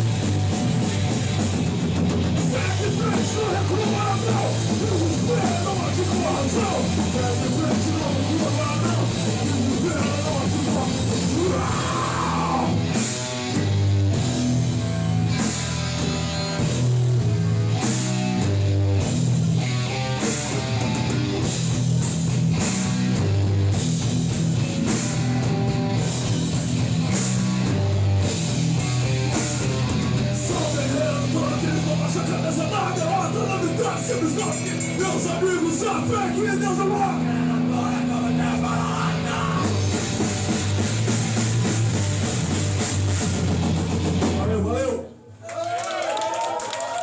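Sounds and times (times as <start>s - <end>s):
punk band playing live: 0.0s - 45.0s.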